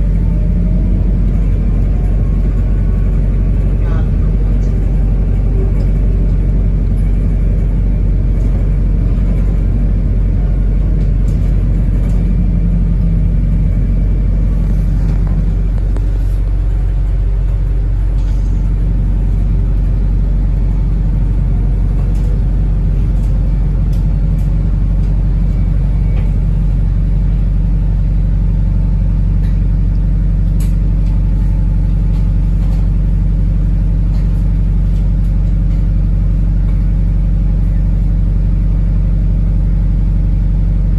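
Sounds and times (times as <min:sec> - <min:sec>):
bus interior low drone: 0:00.0 - 0:40.9.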